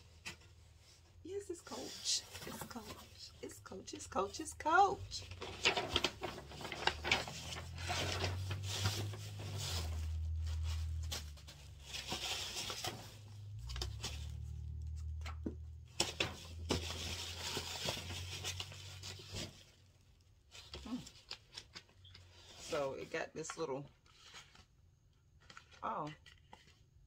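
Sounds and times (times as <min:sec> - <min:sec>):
cardboard and paper rustling: 0:00.0 - 0:27.0.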